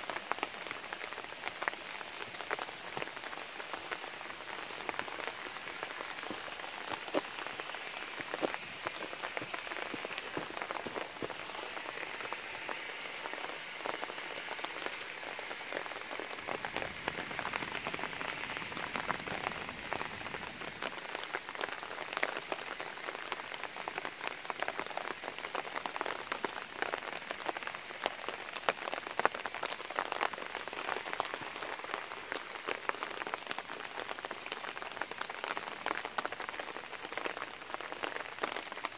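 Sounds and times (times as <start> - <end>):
light rain falling: 0.0 - 38.9
raindrops ticking sharply: 0.0 - 38.9.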